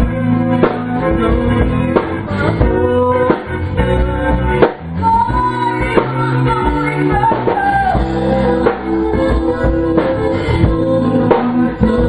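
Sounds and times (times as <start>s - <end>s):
drum kit: 0.0s - 12.0s
electric guitars: 0.0s - 12.0s.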